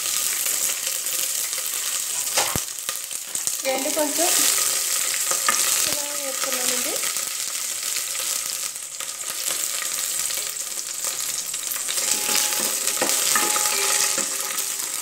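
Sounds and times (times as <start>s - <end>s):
nuts sizzling in hot fat: 0.0s - 15.0s.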